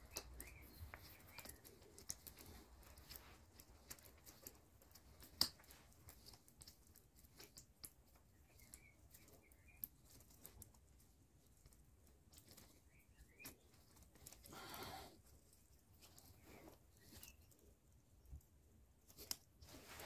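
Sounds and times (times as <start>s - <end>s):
faint clicks and ticks: 0.0s - 20.0s.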